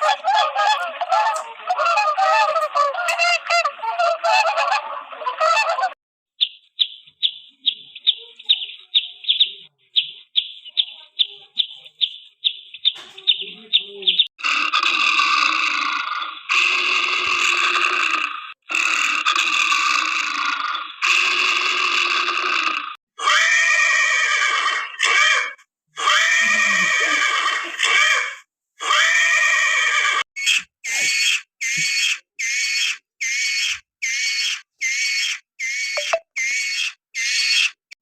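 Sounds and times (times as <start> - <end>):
animal calls: 0.0 - 6.0, 12.8 - 37.8.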